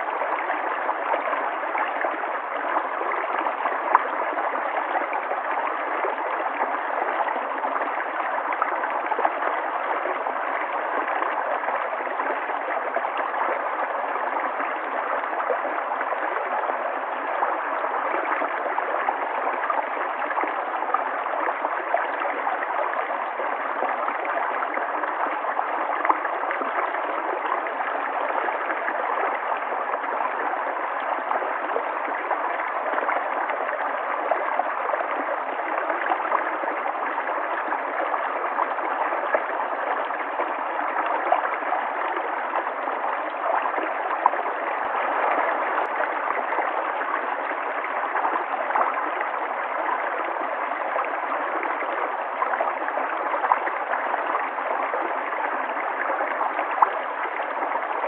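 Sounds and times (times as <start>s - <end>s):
river water flowing and gurgling: 0.0s - 58.0s.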